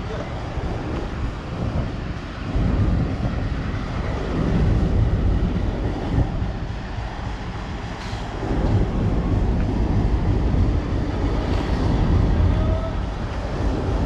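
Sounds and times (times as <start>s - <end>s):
train rumbling on rails: 0.0s - 14.0s
wind on microphone: 0.0s - 14.0s.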